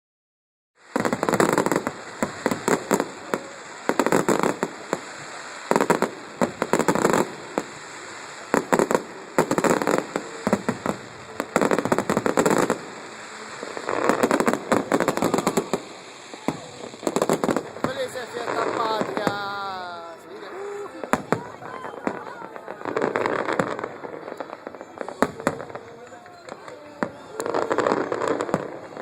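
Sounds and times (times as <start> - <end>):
fireworks crackling and banging: 0.8 - 29.0.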